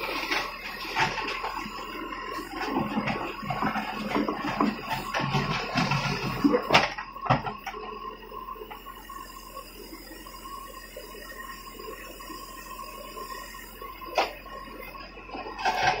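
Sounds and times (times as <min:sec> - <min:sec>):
backhoe loader mechanical hum: 0:00.0 - 0:16.0.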